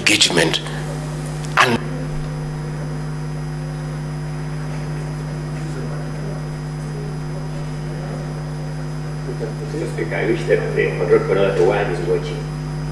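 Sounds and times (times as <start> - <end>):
faint room noise: 0.0 - 12.9
low electrical hum: 0.0 - 12.9.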